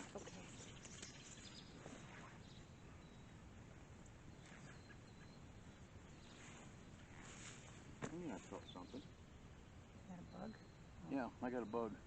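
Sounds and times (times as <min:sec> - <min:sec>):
faint high bird chirps: 0:00.0 - 0:03.5, 0:04.2 - 0:12.0.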